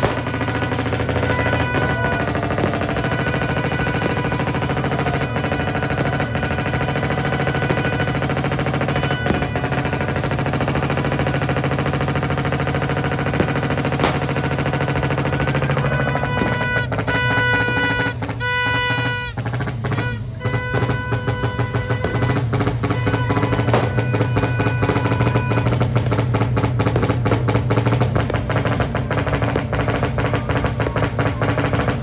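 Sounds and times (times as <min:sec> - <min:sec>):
firecrackers crackling: 0:00.0 - 0:32.0.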